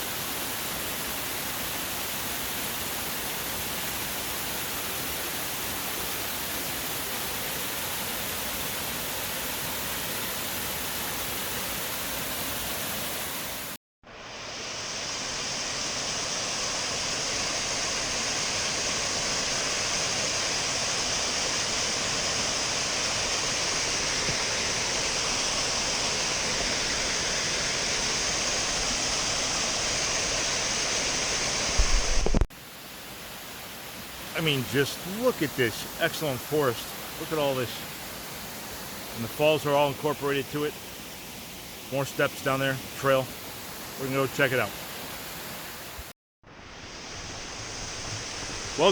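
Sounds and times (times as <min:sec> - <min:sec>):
waterfall rushing: 0:00.0 - 0:13.8, 0:14.5 - 0:46.1, 0:46.8 - 0:48.9.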